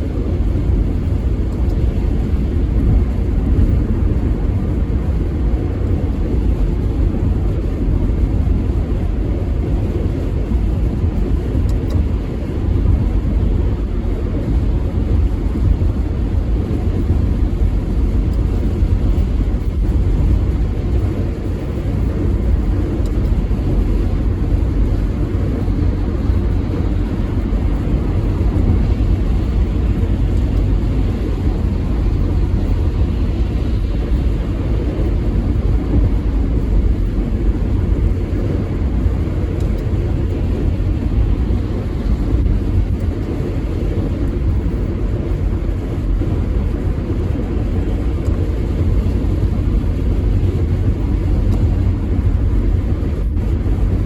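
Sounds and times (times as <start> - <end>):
vehicle road noise rumble: 0.0 - 54.0.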